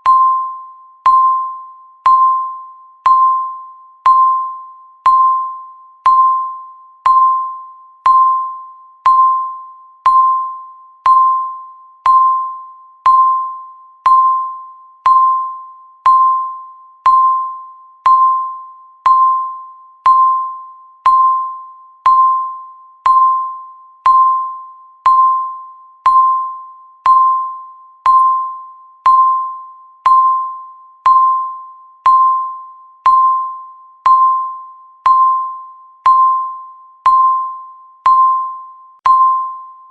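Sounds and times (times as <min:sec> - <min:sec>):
timer electronic beeps: 0:00.0 - 0:39.9.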